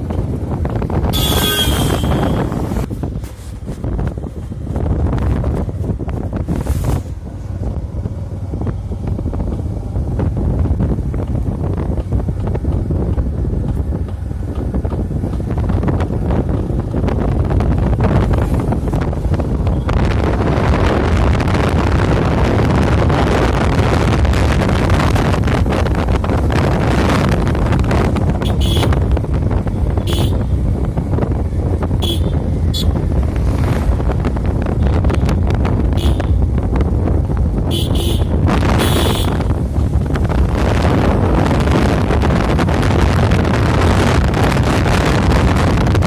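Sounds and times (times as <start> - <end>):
wind rumbling on microphone: 0.0 - 46.0.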